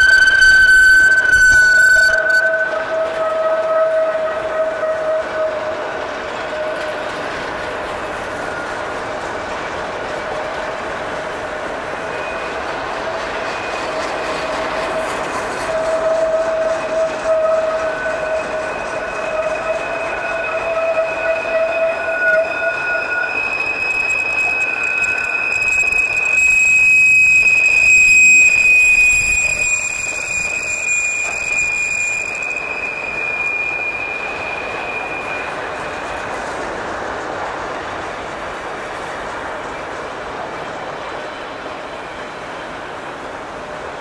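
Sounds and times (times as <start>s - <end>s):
lower wheel squeal: 0.0s - 40.0s
train wheels screeching: 0.0s - 44.0s.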